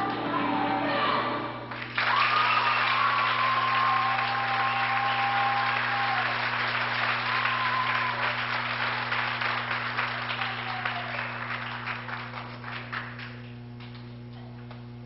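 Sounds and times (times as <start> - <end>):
steady low hum: 0.0 - 15.0
audience applauding: 1.7 - 14.1.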